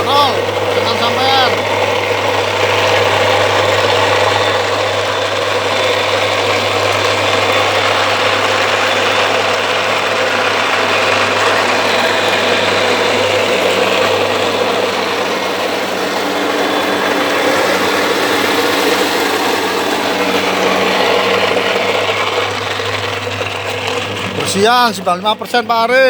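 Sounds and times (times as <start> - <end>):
dehulling machine humming: 0.0 - 26.0.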